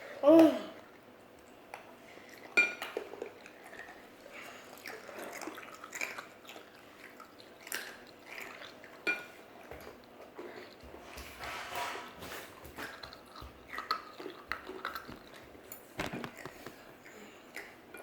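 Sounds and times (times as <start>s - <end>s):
wet chewing and mouth noises: 0.9s - 11.3s, 12.2s - 18.0s.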